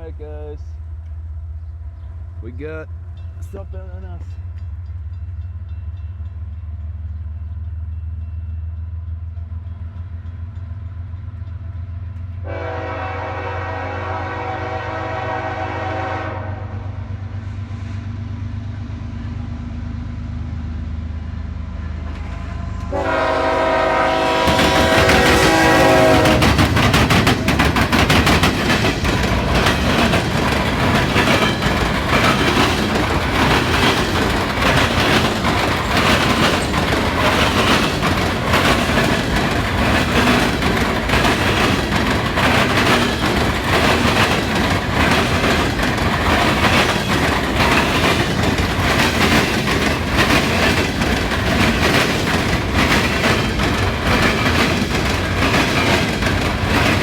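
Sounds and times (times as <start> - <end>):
train wheels clattering over crossings: 0.0 - 16.2, 21.6 - 57.0.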